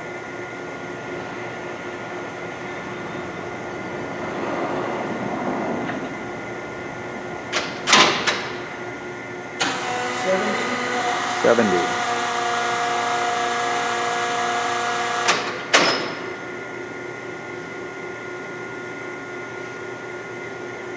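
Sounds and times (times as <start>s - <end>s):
lathe gear hum with whine: 0.0s - 20.9s.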